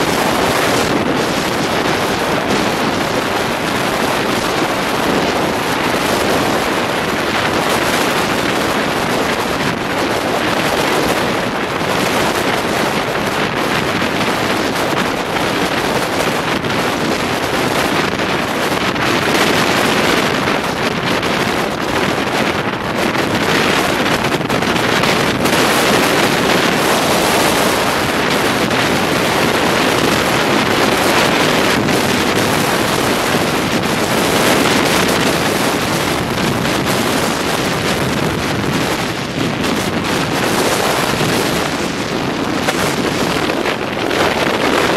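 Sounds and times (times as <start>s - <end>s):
tyre and wind noise inside car: 0.0s - 44.9s.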